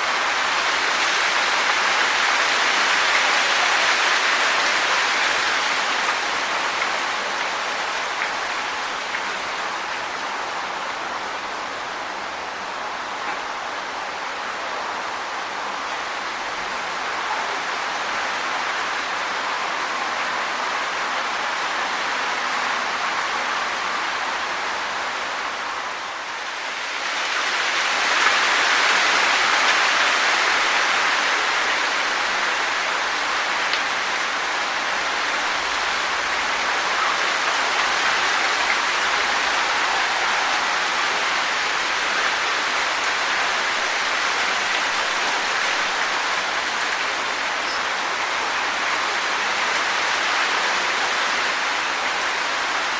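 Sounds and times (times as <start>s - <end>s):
wind through rustling leaves: 0.0s - 52.9s.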